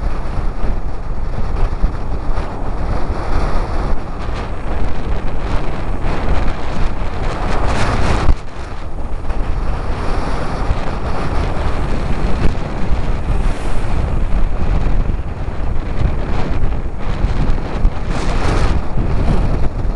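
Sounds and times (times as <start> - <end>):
storm wind buffeting microphone: 0.0 - 19.9
surf breaking on rocks: 0.2 - 19.9.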